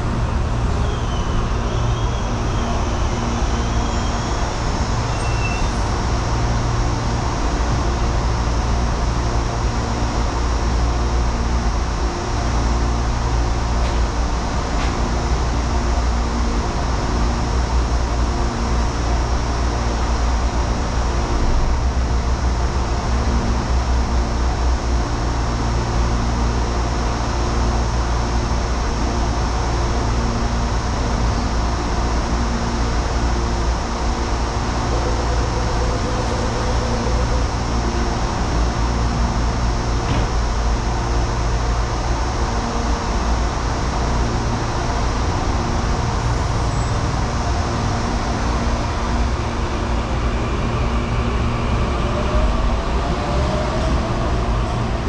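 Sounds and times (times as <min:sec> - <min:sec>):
trains and traffic rumble: 0:00.0 - 0:55.0.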